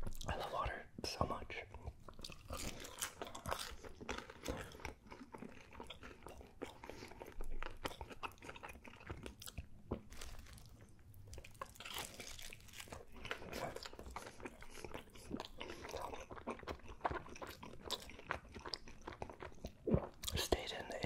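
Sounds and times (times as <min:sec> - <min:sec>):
chewing pizza with crunches: 0:01.6 - 0:21.0.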